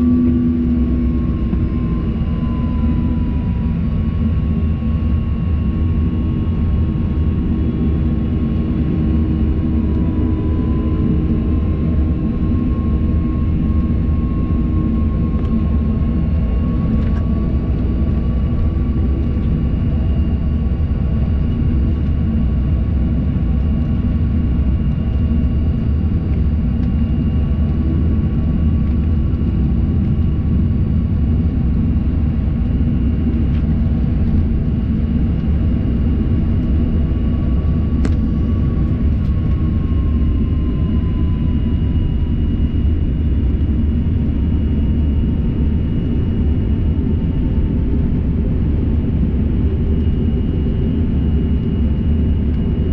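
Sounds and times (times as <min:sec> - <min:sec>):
jet engine whine: 0:00.0 - 0:52.9
jet engines low rumble: 0:00.0 - 0:52.9.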